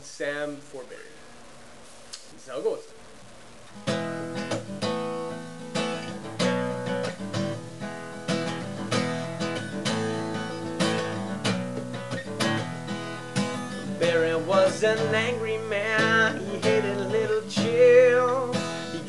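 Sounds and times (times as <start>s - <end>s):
acoustic guitar strumming chords: 3.7s - 19.0s.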